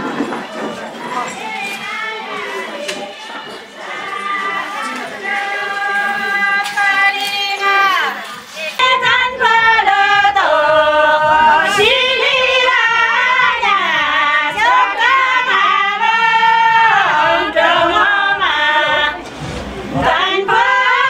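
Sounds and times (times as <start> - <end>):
women singing together: 0.0 - 21.0.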